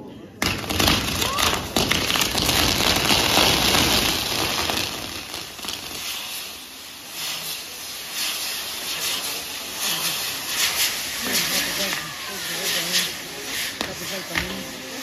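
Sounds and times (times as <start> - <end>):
firework fountains hissing: 0.3 - 15.0
loud firework crackle: 0.4 - 15.0.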